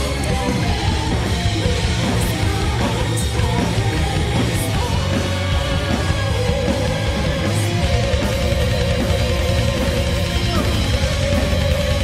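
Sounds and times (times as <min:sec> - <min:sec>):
bass guitar: 0:00.0 - 0:12.0
distorted electric guitar: 0:00.0 - 0:12.0
drums: 0:00.0 - 0:12.0.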